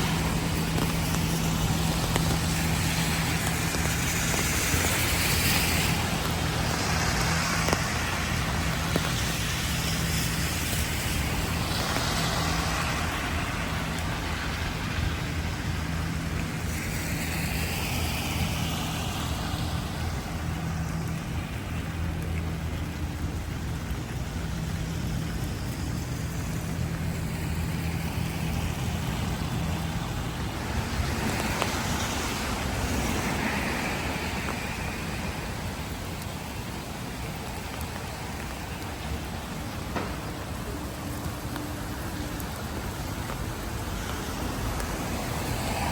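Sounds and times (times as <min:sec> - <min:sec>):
cars hissing past on wet road: 0:00.0 - 0:45.9
low engine hum: 0:00.0 - 0:45.9
rain: 0:00.0 - 0:45.9.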